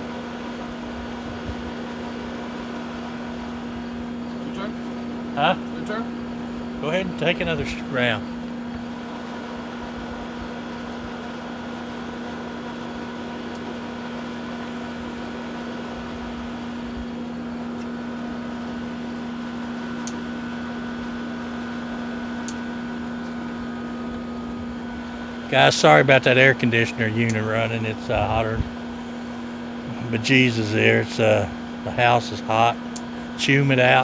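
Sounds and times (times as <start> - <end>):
air conditioner humming: 0.0 - 34.0.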